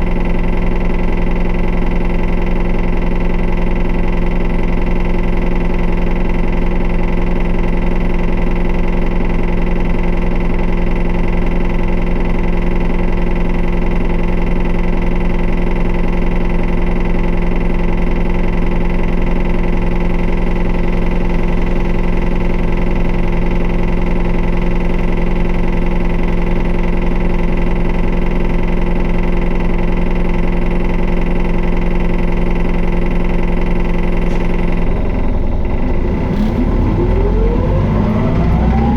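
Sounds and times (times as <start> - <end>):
bus diesel engine idling: 0.0 - 38.9.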